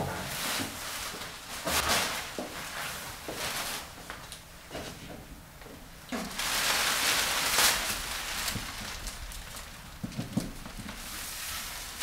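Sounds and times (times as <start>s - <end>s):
plastic sheeting crinkling: 0.3s - 4.3s, 6.1s - 12.0s.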